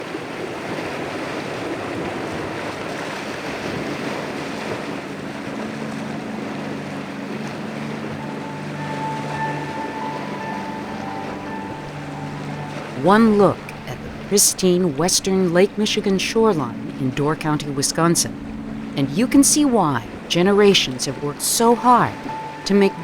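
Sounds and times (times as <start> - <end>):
waves washing on shore: 0.0 - 23.0
wind: 0.0 - 23.0
soft sustained music notes: 4.2 - 23.0.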